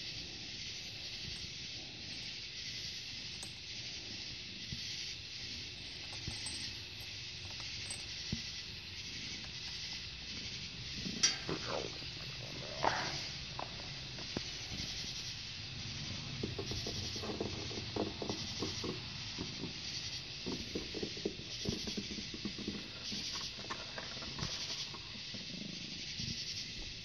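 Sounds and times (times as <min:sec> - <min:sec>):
night insects calling: 0:00.0 - 0:27.0
steady hiss: 0:00.0 - 0:27.0.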